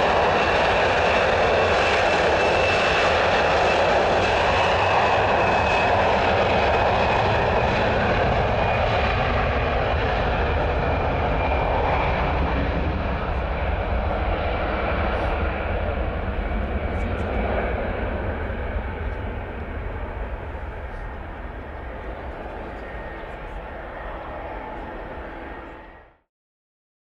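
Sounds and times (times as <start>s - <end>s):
jet engines rushing and whining: 0.0s - 26.2s.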